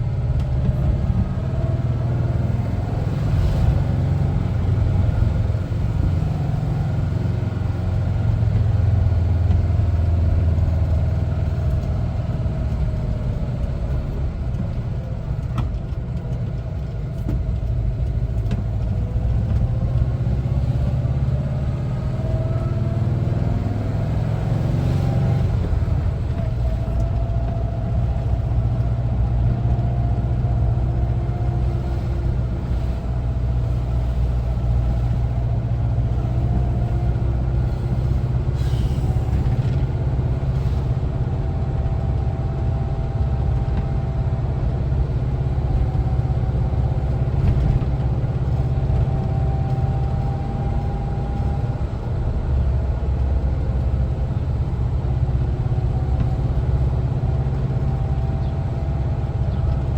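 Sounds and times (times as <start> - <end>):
van engine running: 0.0 - 59.9.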